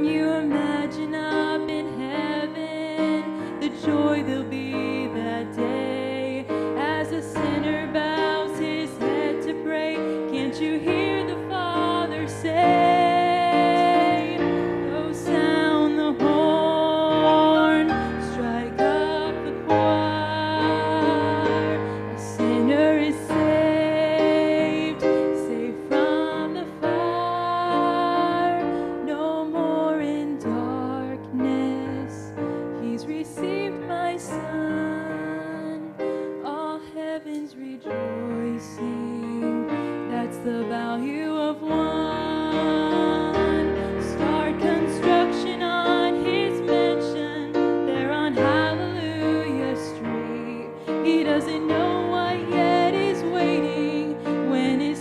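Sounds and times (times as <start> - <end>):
digital piano chords: 0.0 - 55.0
woman singing: 0.0 - 55.0.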